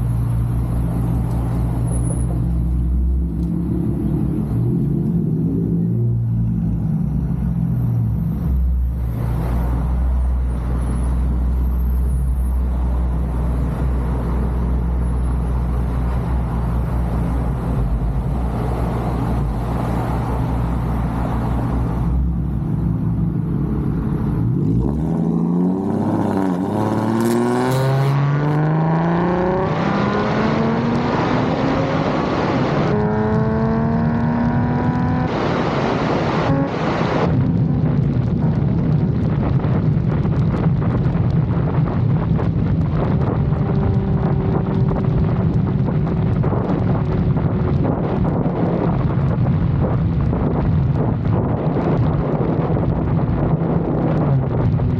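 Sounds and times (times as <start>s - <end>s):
car engine accelerating: 0.0s - 54.9s.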